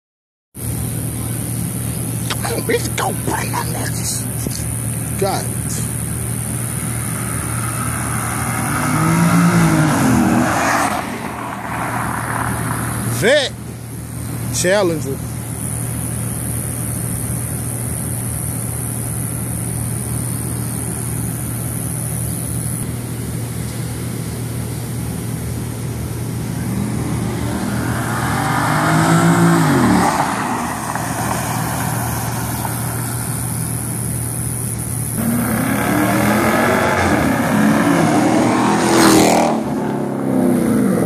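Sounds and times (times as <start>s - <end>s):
racing car engines revving: 0.6s - 22.0s, 23.7s - 41.0s
steady engine drone: 0.6s - 41.0s.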